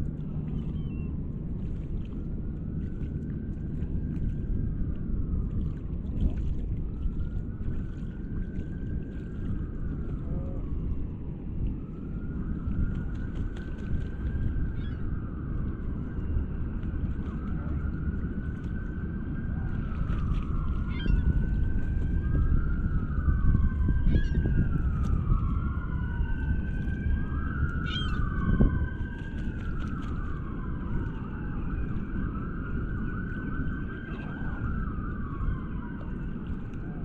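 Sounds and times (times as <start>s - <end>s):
low rumble: 0.0s - 37.0s
emergency sirens wailing: 2.4s - 37.0s.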